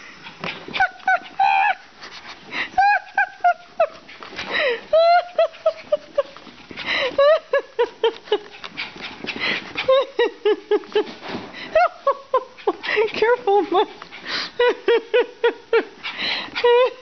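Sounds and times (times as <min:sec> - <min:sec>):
dog panting: 0:00.0 - 0:11.4, 0:12.5 - 0:14.9, 0:15.8 - 0:17.0.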